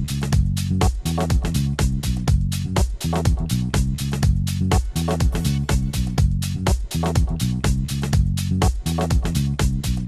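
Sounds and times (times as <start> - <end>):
bass line: 0.0 - 10.0
quick drum beat: 0.0 - 10.0.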